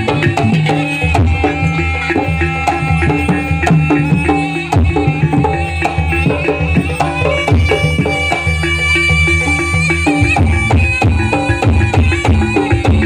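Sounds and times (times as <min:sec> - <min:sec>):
hand drum strokes: 0:00.0 - 0:13.0
pitched gamelan notes: 0:00.0 - 0:13.0.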